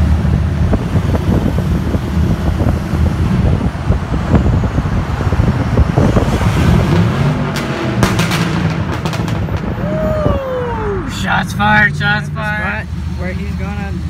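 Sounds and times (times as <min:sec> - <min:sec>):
loud deep truck exhaust: 0:00.0 - 0:14.0.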